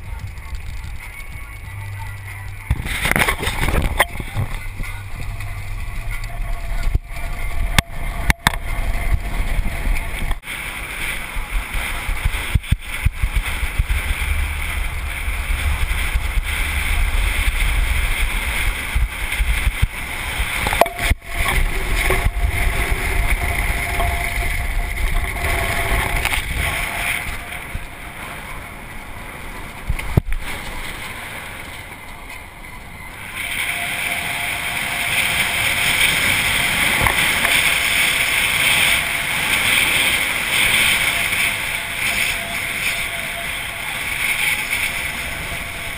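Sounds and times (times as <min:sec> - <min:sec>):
tyres on gravel: 0:00.0 - 0:45.9
wind rushing over microphone: 0:00.0 - 0:45.9.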